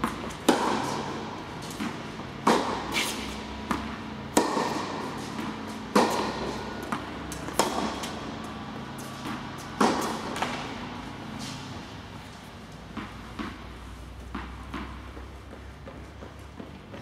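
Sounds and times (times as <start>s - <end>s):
racket striking tennis ball: 0.0s - 16.8s
tennis ball bouncing: 0.0s - 17.0s.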